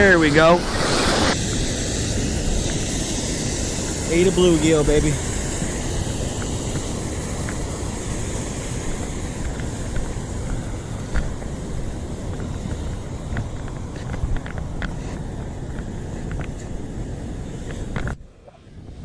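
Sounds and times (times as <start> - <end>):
high hiss: 0.0 - 19.0
wind rumbling on microphone: 0.0 - 19.0.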